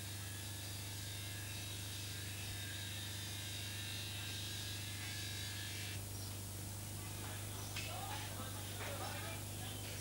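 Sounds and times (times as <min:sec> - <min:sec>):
low electrical hum and buzz: 0:00.0 - 0:10.0.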